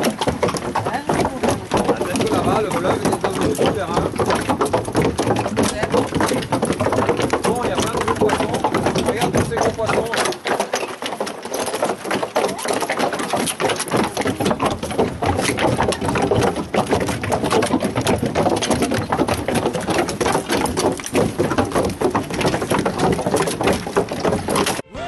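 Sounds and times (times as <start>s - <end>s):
horse hooves on wooden bridge: 0.0s - 24.9s.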